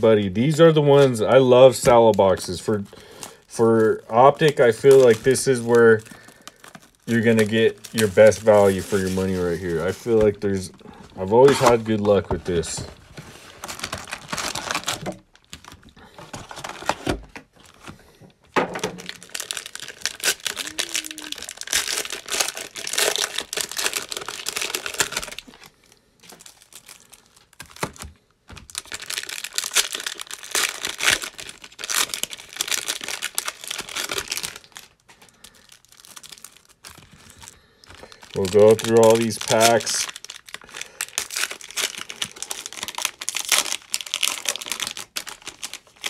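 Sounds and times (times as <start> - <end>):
cellophane packs crinkling: 0.0 - 18.0, 18.8 - 46.0.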